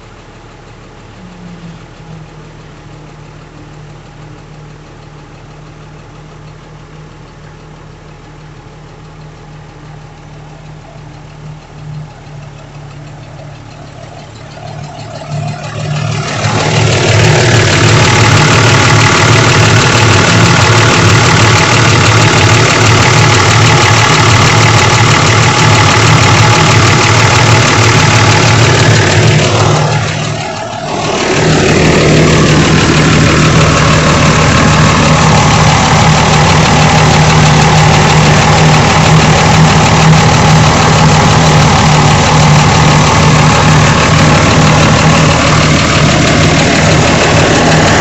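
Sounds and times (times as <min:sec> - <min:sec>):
truck engine idling and revving: 0:00.0 - 0:48.0.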